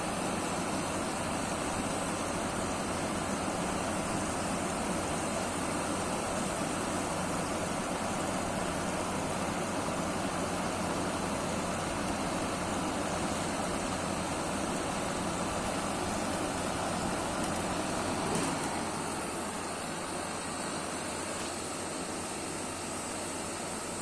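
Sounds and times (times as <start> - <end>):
fan air rushing: 0.0 - 24.0.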